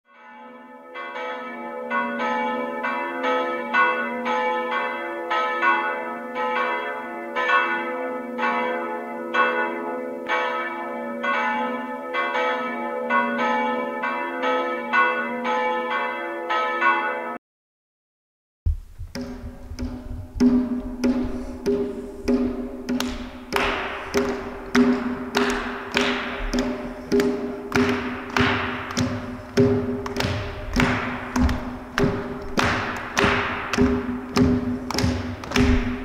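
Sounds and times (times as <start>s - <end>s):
church bells ringing: 0.1s - 17.4s, 20.6s - 36.0s.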